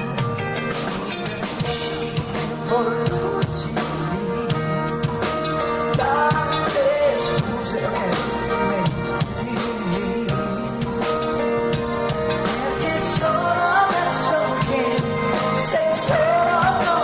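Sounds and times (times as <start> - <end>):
drum kit beat: 0.0 - 17.0
live rock band playing: 0.0 - 17.0.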